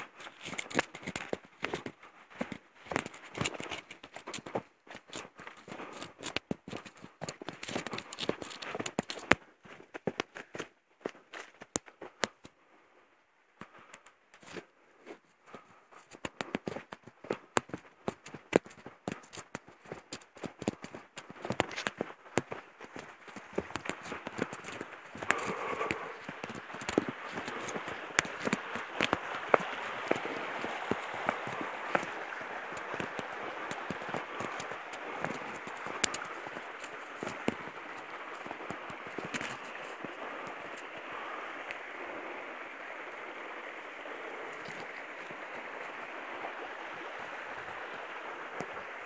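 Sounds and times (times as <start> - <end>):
footsteps on rock and dirt: 0.0 - 12.6, 13.6 - 41.8, 44.5 - 45.4
creek flowing over rocks: 0.0 - 49.0.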